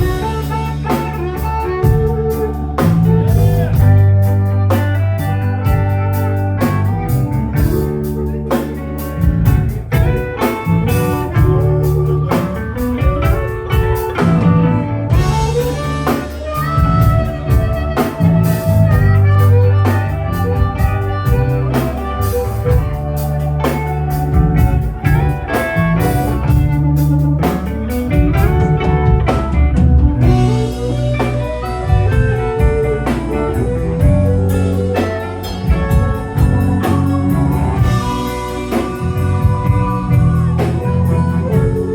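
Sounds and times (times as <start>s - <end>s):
bass guitar: 0.0s - 41.9s
drum kit beat: 0.0s - 41.9s
electric guitar: 0.0s - 41.9s.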